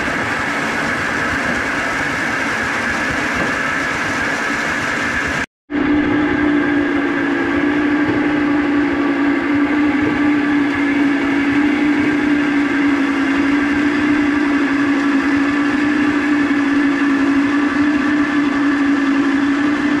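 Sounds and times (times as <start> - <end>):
water rushing through waterwheel: 0.0 - 5.5, 6.4 - 20.0
generator humming: 0.0 - 20.0.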